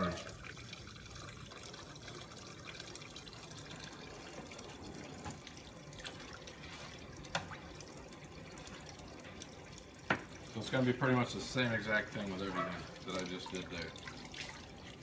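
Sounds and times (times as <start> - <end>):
small water splashes: 0.0 - 15.0
tap water running into sink: 0.0 - 15.0.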